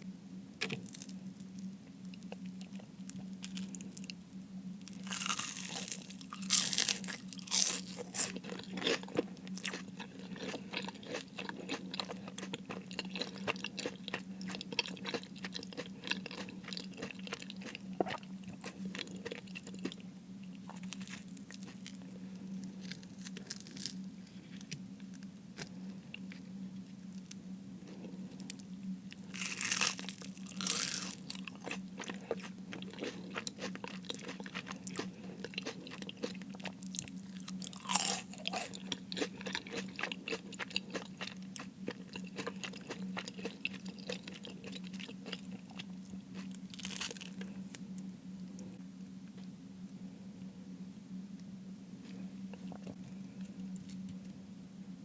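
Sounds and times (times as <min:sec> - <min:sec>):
steady low hum: 0:00.0 - 0:55.0
chewing crispy food: 0:00.6 - 0:04.2, 0:04.8 - 0:49.5, 0:52.0 - 0:54.4.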